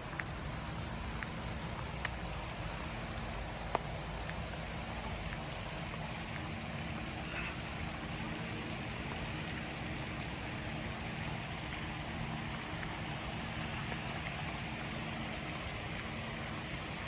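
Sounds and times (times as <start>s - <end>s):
continuous noisy wash: 0.0s - 17.0s.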